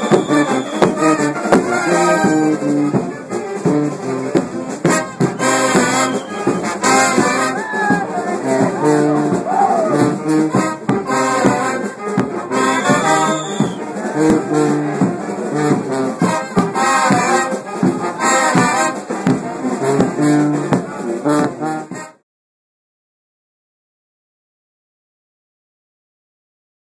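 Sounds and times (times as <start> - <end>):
brass band playing with driving beat: 0.0 - 22.2.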